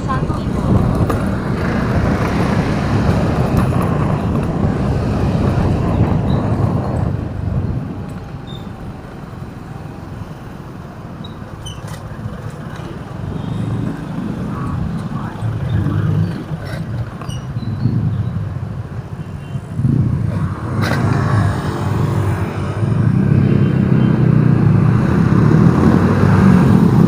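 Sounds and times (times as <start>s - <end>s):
vehicle road noise rumble: 0.0s - 27.0s.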